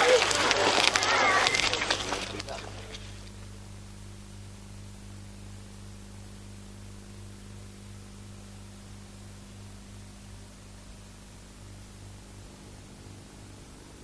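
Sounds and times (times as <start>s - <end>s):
low mains hum: 0.0s - 14.0s
steady hiss: 0.0s - 14.0s.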